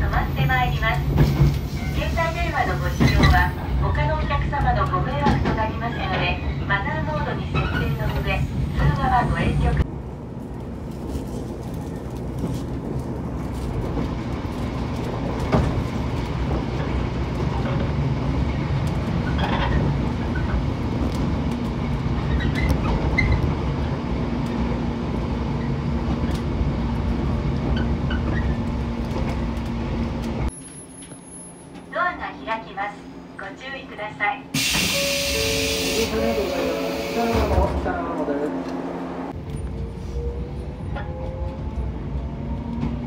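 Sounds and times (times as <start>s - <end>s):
train rumble inside carriage: 0.0s - 43.0s.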